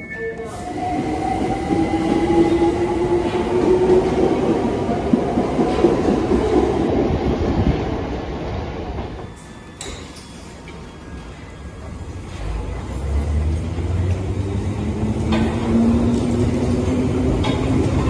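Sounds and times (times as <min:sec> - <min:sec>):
train wheels on rails: 0:00.4 - 0:18.0.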